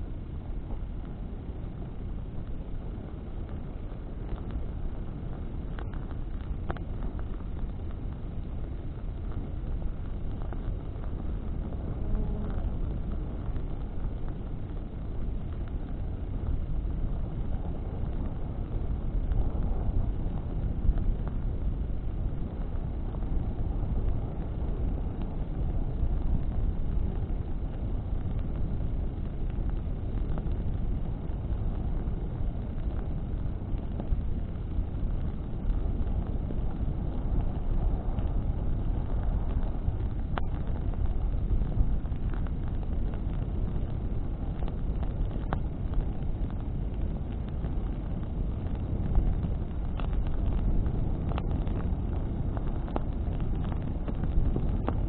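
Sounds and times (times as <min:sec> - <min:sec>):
burning wood crackling: 0:00.0 - 0:55.0
wind and flame rumble: 0:00.0 - 0:55.0.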